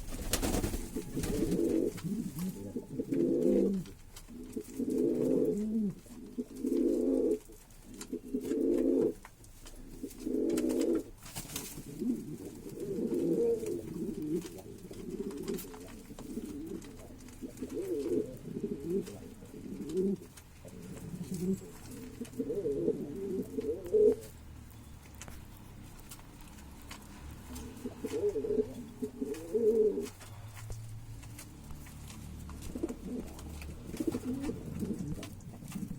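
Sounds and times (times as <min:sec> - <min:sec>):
pigeons cooing: 0:00.0 - 0:09.2, 0:09.8 - 0:11.2, 0:11.8 - 0:24.4, 0:27.4 - 0:30.6, 0:31.3 - 0:35.9.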